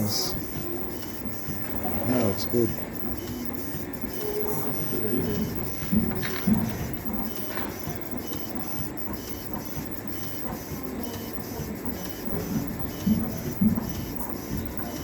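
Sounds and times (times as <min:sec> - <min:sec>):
cnc machine motors whirring: 0:00.0 - 0:15.0.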